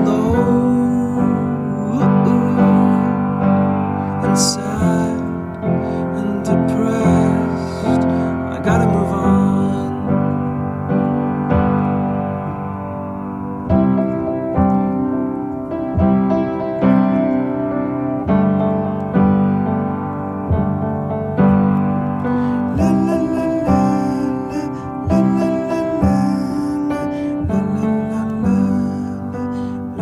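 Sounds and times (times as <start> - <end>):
piano playing chords: 0.0 - 30.0.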